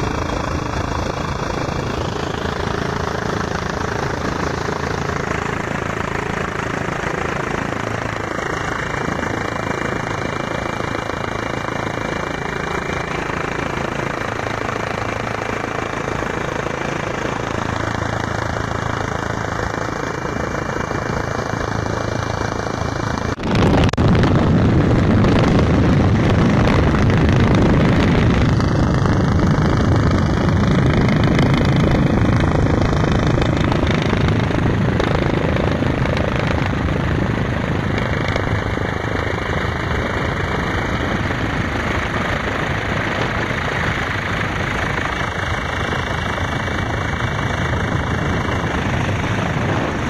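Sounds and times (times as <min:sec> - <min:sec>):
helicopter engine and rotor noise: 0:00.0 - 0:50.0.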